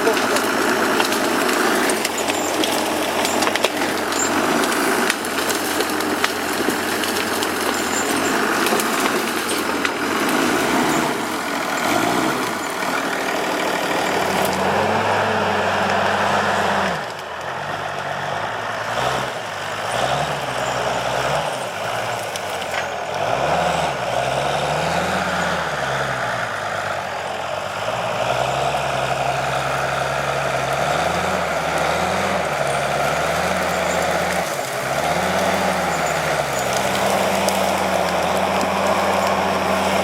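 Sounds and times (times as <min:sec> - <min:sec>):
heavy diesel engine revving: 0:00.0 - 0:40.0.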